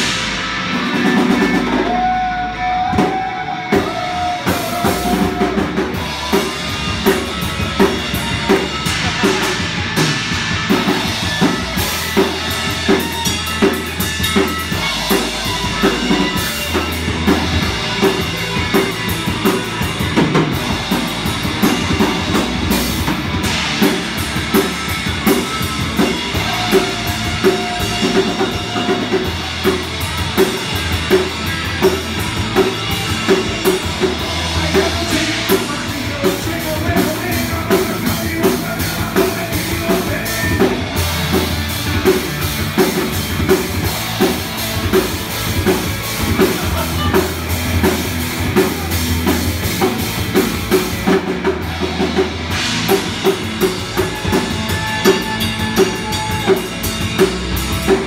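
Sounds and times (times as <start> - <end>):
drum kit steady beat: 0.0 - 58.0
live rock band playing: 0.0 - 58.0.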